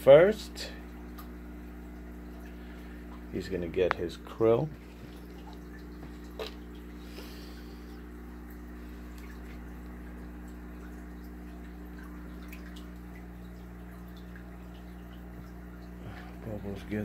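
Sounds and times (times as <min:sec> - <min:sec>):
aquarium filter hum: 0:00.0 - 0:17.0
water trickling: 0:00.1 - 0:17.0
faint water drips: 0:00.5 - 0:17.0.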